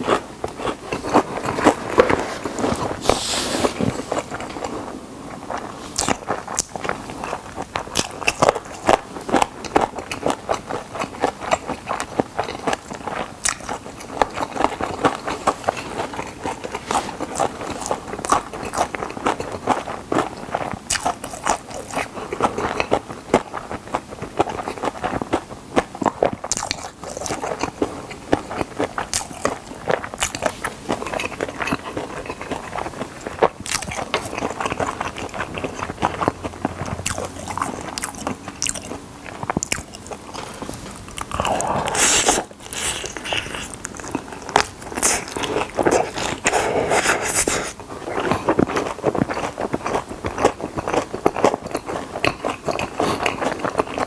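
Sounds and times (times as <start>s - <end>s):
crunchy biting and chewing: 0.0s - 54.0s.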